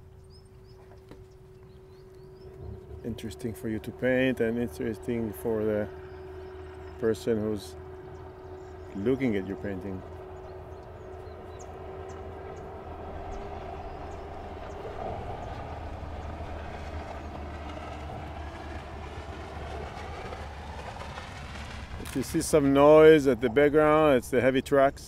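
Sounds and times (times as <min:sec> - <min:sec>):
steady hum: 0:00.0 - 0:25.0
heavy trucks rumbling over bridge: 0:01.9 - 0:25.0.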